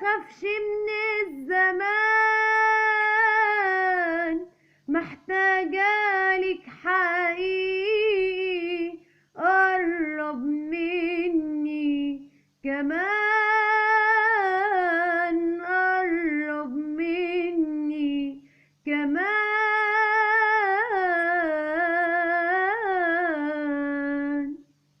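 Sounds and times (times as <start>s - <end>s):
woman singing with vibrato: 0.0s - 24.8s.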